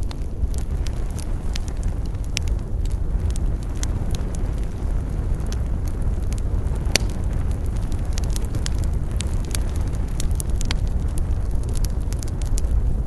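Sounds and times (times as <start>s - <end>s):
burning wood crackling and popping: 0.0s - 13.0s
campfire low rumble: 0.0s - 13.0s.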